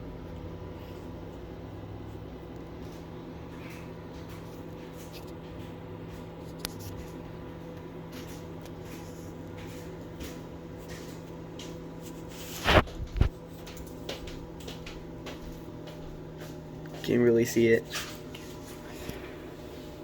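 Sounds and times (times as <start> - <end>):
microwave humming: 0.0 - 20.0.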